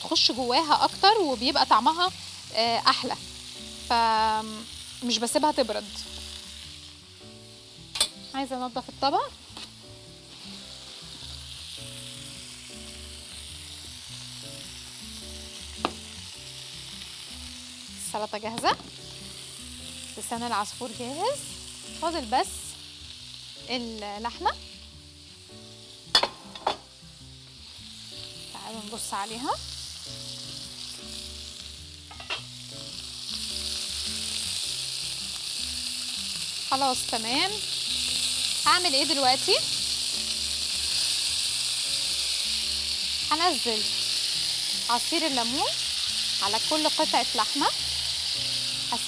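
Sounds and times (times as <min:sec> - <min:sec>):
meat sizzling in frying pan: 0:00.0 - 0:49.0.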